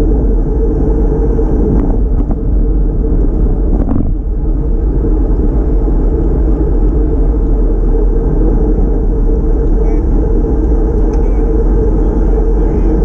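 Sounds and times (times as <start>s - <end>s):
tyre and road noise: 0.0s - 13.0s
wind rumble on microphone: 0.0s - 13.0s.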